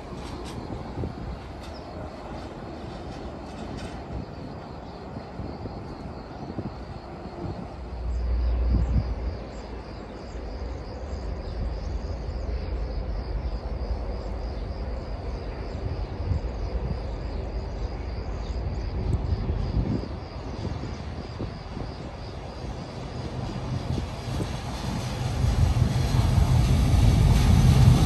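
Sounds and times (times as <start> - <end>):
distant train rumbling: 0.0 - 28.0
wind buffeting microphone: 0.0 - 28.0.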